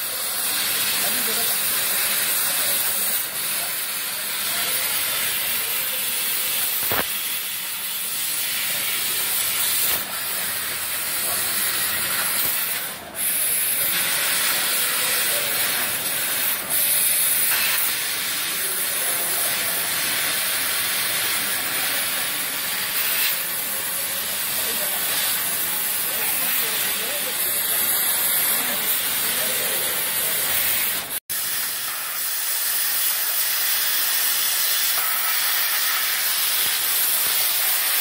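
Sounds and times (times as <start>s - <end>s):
laser cutter gas hissing: 0.0s - 38.0s.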